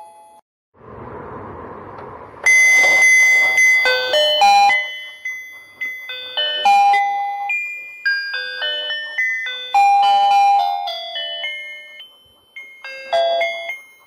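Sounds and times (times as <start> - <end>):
electronic toy jingle beeping: 2.5 - 14.0.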